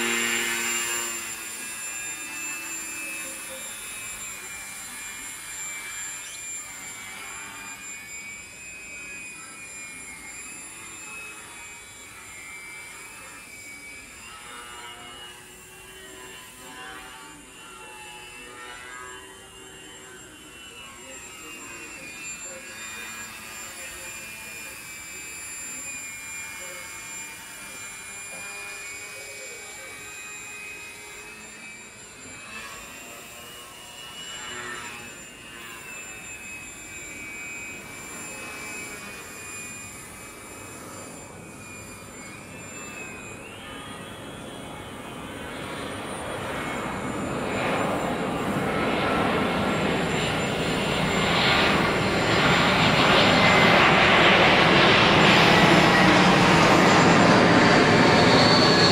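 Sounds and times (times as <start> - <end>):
rc plane motor whining: 0.0 - 58.9.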